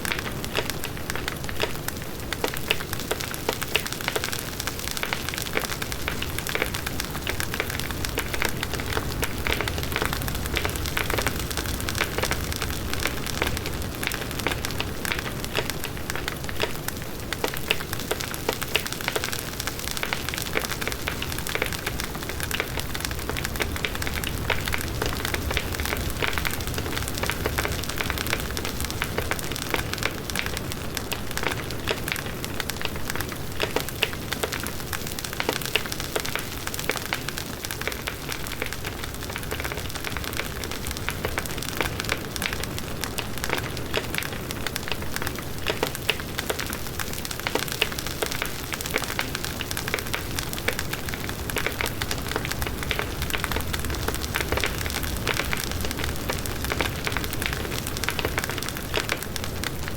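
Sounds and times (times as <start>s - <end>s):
bonfire crackling: 0.0s - 59.9s.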